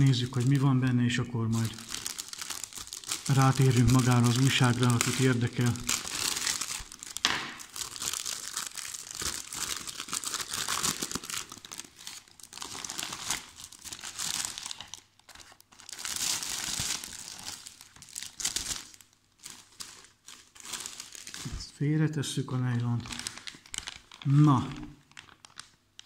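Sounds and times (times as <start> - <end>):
plastic bag crinkling and tearing: 0.0 - 21.7, 22.7 - 26.0.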